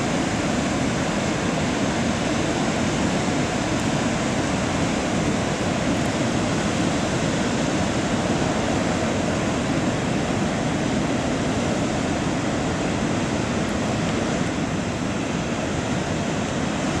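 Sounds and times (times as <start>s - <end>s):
heavy surf breaking: 0.0s - 17.0s.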